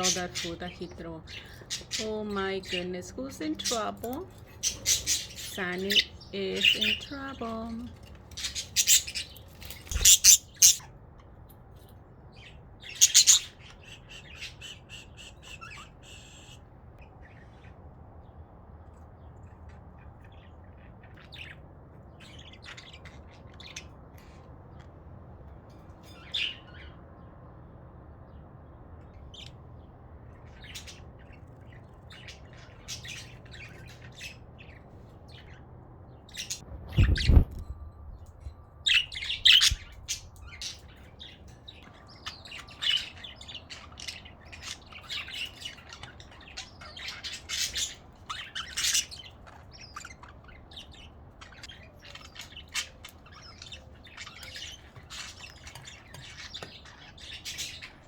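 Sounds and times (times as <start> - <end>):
budgerigars chirping and squawking: 0.0 - 24.9, 25.9 - 27.0, 29.0 - 37.7, 38.8 - 58.0.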